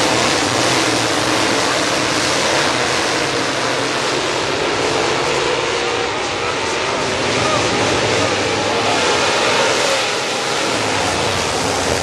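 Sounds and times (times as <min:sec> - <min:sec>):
race car engines racing past: 0:00.0 - 0:12.0.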